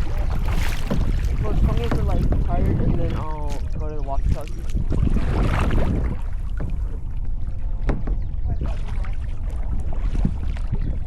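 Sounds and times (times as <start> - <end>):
kayak paddle splashing water: 0.0 - 11.0
wind on microphone: 0.0 - 11.0.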